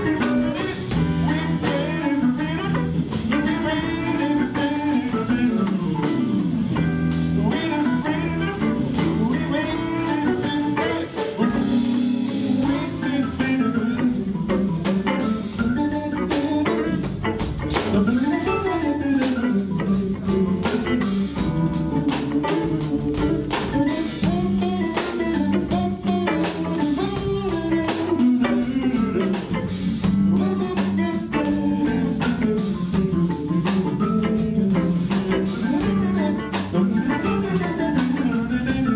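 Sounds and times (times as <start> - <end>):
drum kit: 0.0 - 38.9
guitar: 0.0 - 38.9
organ: 0.0 - 38.9.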